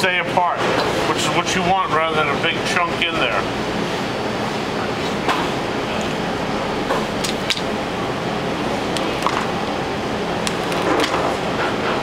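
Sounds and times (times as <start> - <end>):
kitchen ventilation rushing: 0.0 - 12.0.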